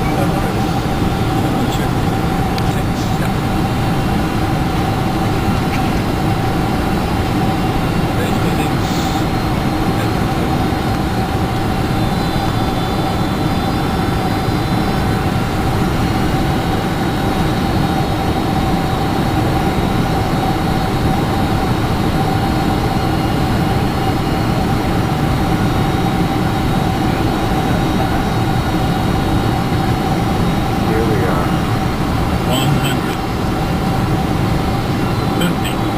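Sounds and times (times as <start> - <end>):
jet engine drone and airflow: 0.0 - 35.9
mid-pitched whine: 0.0 - 35.9.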